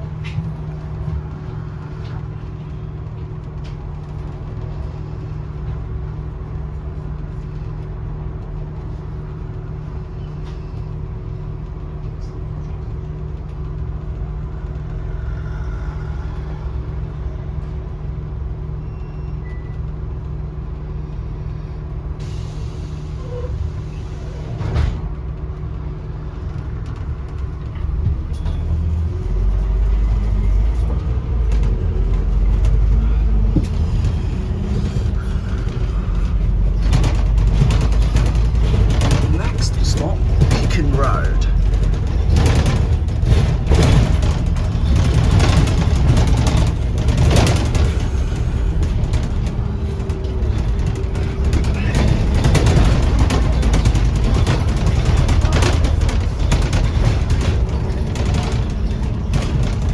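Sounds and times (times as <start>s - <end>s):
bus engine drone with whine: 0.0s - 59.9s.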